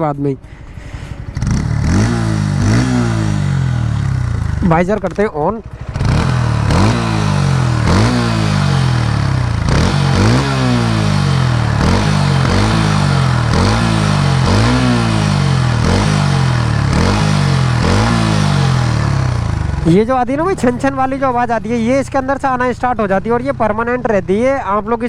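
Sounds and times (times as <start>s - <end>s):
metallic engine clatter: 0.4s - 21.0s
motorcycle engine revving: 0.4s - 24.6s.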